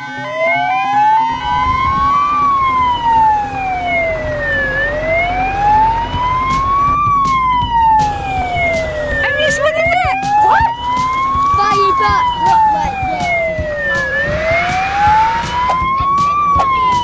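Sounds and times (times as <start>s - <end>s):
fire truck siren wailing: 0.0s - 17.0s
truck engine rumble: 0.0s - 17.0s.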